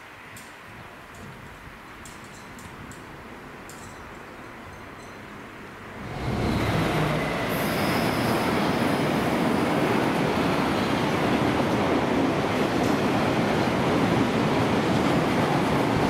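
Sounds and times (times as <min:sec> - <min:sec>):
train wheels running on rail: 0:00.3 - 0:16.0.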